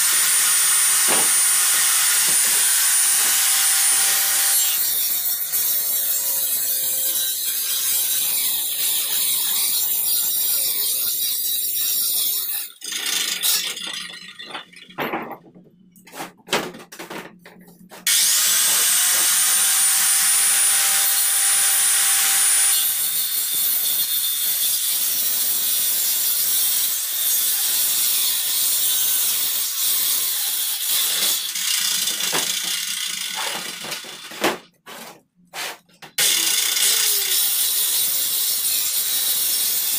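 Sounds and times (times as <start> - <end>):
circular saw cutting plywood: 0.0 - 13.6, 18.0 - 25.7, 27.0 - 39.9.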